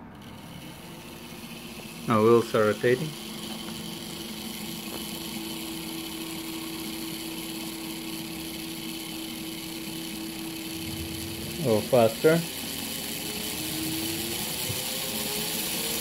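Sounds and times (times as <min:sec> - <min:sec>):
model train motor whirring: 0:00.0 - 0:16.0.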